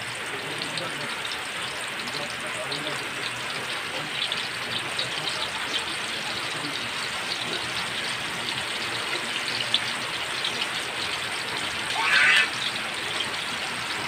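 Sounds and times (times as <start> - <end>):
omelette sizzling in oil: 0.0 - 14.0.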